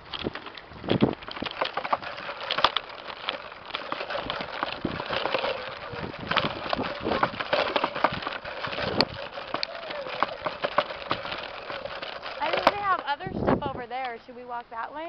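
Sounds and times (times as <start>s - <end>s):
footsteps on dry dirt and straw: 0.0s - 13.3s.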